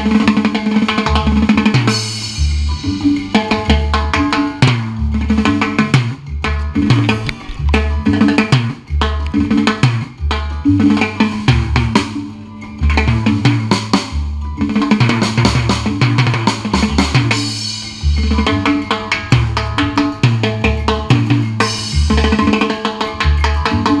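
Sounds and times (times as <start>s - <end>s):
bass line: 0.0s - 24.0s.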